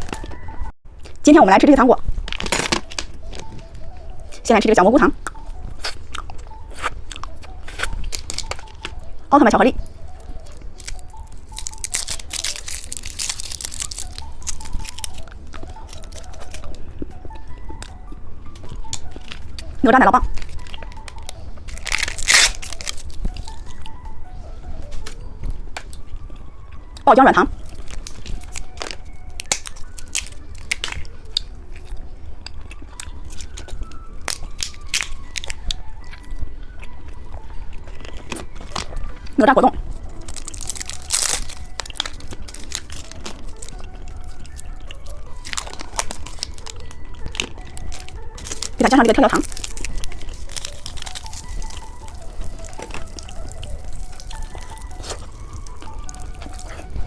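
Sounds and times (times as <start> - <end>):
candy wrapper crinkling: 2.0 - 57.0.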